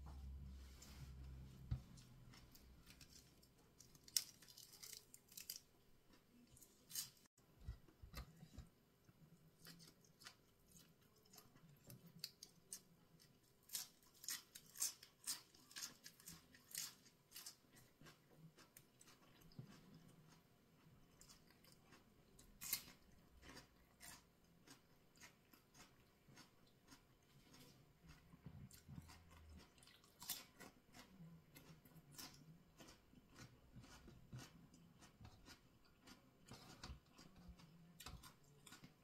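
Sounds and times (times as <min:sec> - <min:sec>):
crisp chewing crunches: 0:02.0 - 0:07.2, 0:09.6 - 0:39.0.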